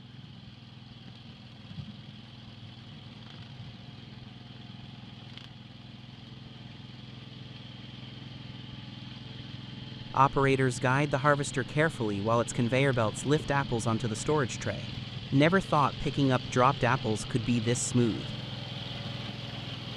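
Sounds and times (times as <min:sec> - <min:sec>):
engine humming: 0:00.0 - 0:19.9.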